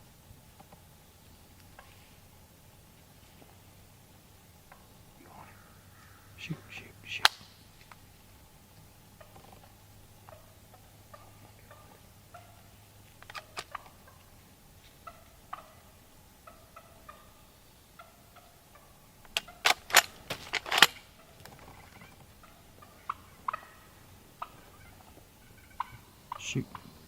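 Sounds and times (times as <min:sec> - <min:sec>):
turkeys clucking: 0:00.0 - 0:27.0.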